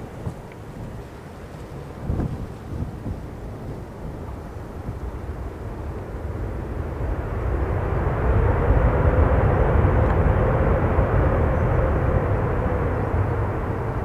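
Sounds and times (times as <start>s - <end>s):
jet engines running at high power: 0.0s - 14.0s.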